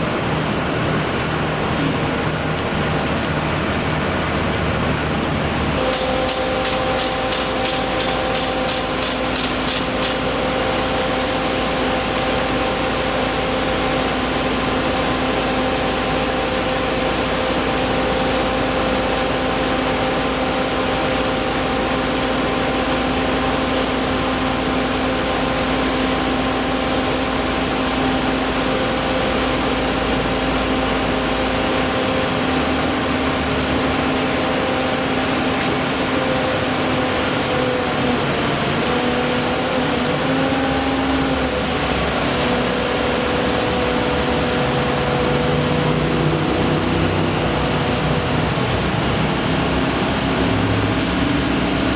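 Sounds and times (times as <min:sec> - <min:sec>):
machine humming: 0:00.0 - 0:51.9.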